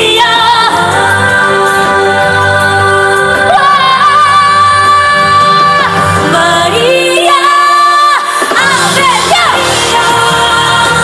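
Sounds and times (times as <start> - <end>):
pop backing track: 0.0 - 11.0
woman singing: 0.0 - 11.0.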